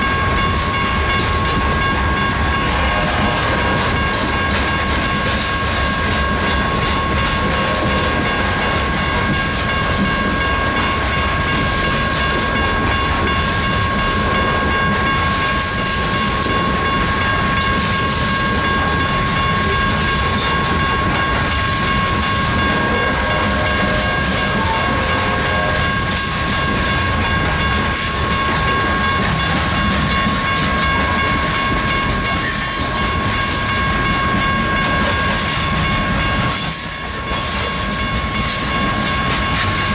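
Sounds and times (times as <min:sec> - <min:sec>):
steady high tone: 0:00.0 - 0:39.9
train rumble: 0:00.0 - 0:39.9
train wheels clacking over rails: 0:00.0 - 0:39.9.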